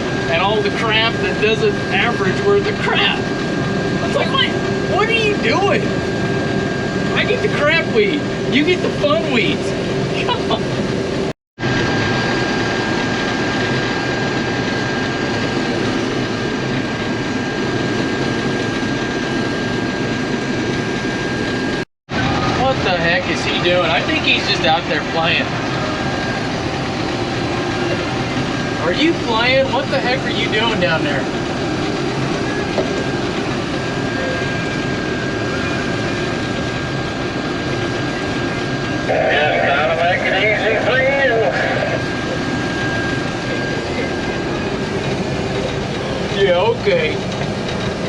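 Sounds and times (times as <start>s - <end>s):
combine harvester running: 0.0s - 48.0s
thin steady whine: 0.0s - 48.0s.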